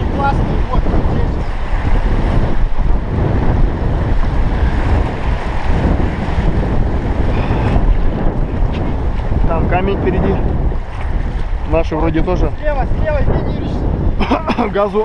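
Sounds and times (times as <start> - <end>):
river rapid rushing: 0.0 - 15.0
wind buffeting microphone: 0.0 - 15.0.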